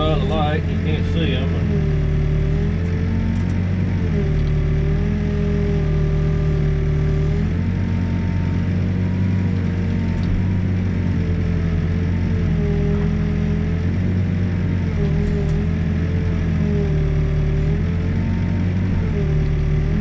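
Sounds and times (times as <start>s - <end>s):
hydraulic whine: 0.0s - 7.7s, 9.9s - 20.0s
diesel engine running: 0.0s - 20.0s.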